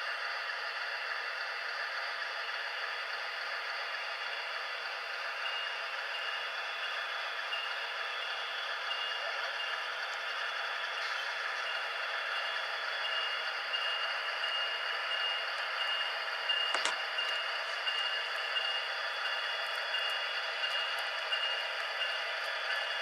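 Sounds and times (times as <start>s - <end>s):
high wavering whine: 0.0s - 23.0s
model trains whirring: 0.0s - 23.0s.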